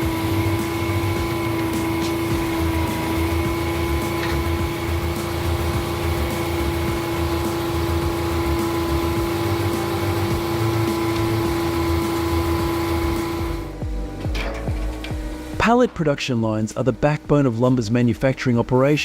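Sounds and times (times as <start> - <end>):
sawmill machinery running: 0.0 - 19.0.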